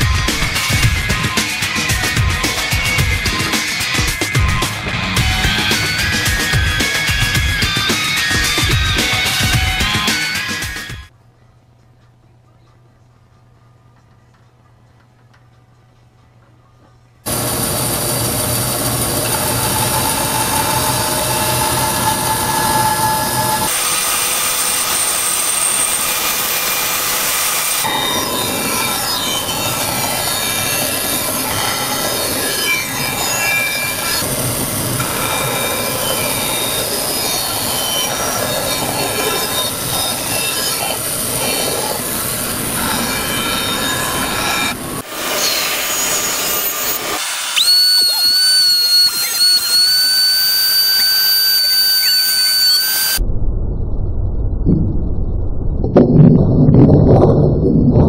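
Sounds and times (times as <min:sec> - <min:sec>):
bandsaw cutting wood: 0:00.0 - 0:11.1, 0:17.3 - 0:53.2.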